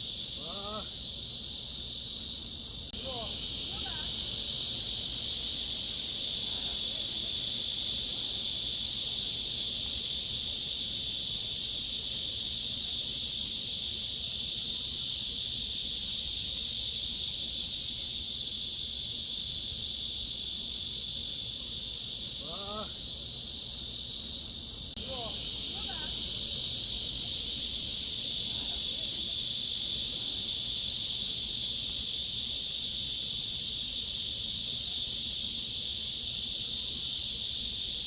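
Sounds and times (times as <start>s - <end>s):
cicadas buzzing: 0.0s - 38.0s.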